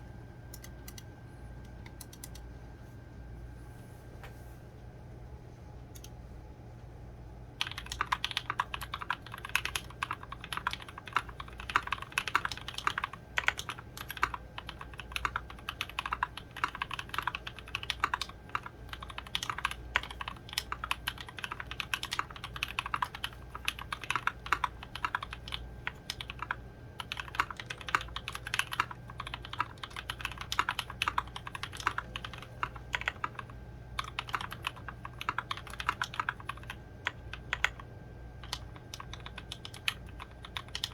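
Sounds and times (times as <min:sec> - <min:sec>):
mechanical keyboard typing: 0:00.5 - 0:01.1, 0:01.8 - 0:02.4, 0:07.6 - 0:40.9.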